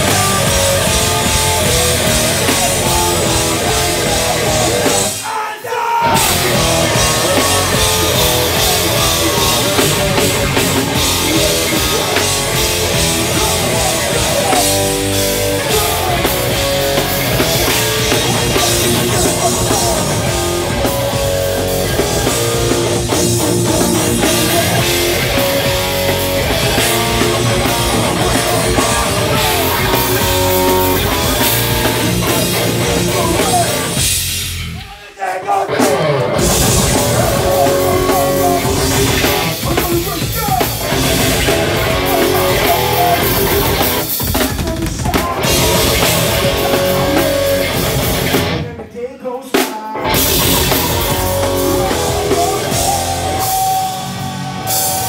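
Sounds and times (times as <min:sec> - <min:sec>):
bass guitar: 0:00.0 - 0:05.2, 0:06.0 - 0:34.9, 0:35.7 - 0:48.9, 0:50.0 - 0:55.0
pounding drums: 0:00.0 - 0:05.4, 0:06.0 - 0:35.0, 0:35.8 - 0:48.6
distorted guitars: 0:00.0 - 0:55.0.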